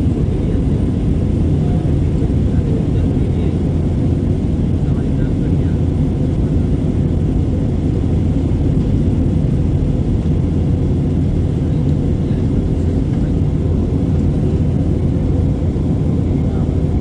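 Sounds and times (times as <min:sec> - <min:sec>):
airplane low rumble: 0:00.0 - 0:17.0.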